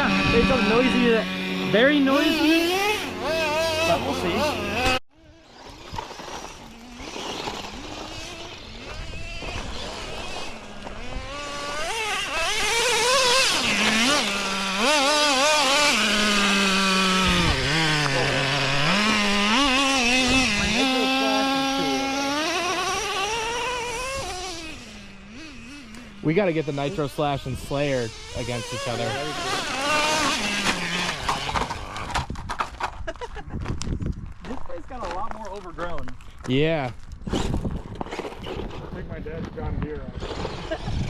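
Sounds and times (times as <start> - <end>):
small rc car engine revving: 0.0 - 33.2, 37.2 - 41.0.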